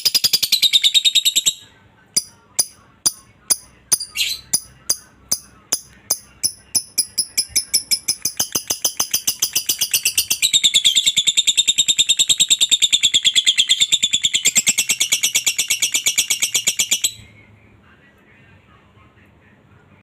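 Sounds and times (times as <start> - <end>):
lovebird chattering: 0.0 - 1.6, 2.2 - 17.2.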